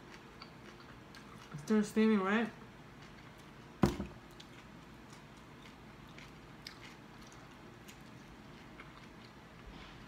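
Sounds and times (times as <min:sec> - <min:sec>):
person chewing squash: 0:00.0 - 0:10.0.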